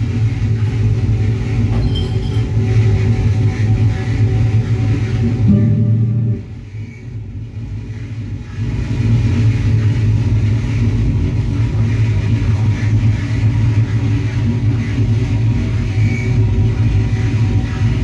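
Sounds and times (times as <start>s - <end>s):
low electronic drone: 0.0s - 18.0s.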